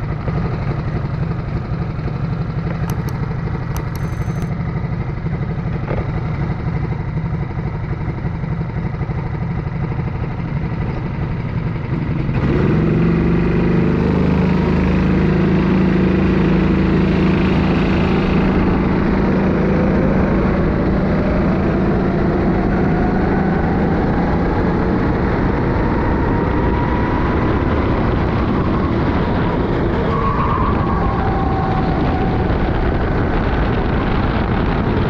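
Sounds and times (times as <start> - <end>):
kart engine pulsing: 0.0 - 35.0.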